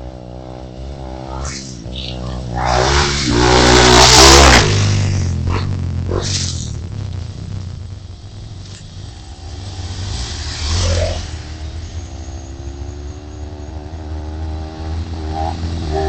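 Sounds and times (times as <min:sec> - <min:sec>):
low rumble: 0:00.0 - 0:15.2
motorcycle engine accelerating: 0:00.0 - 0:16.0.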